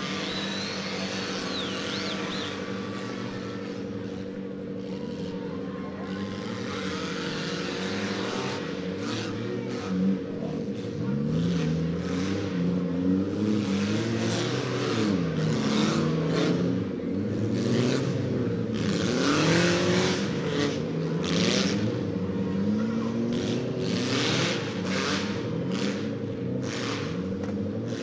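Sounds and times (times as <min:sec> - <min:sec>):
race car engines revving: 0:00.0 - 0:28.0.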